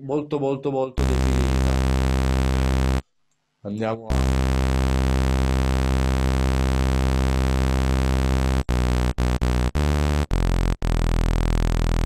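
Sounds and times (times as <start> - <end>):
sawtooth synthesizer tone: 1.0 - 3.0, 4.1 - 12.0.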